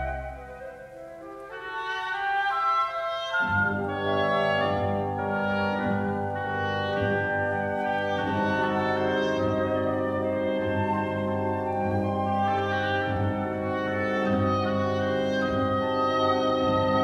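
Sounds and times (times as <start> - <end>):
orchestral brass chords: 0.0 - 17.0.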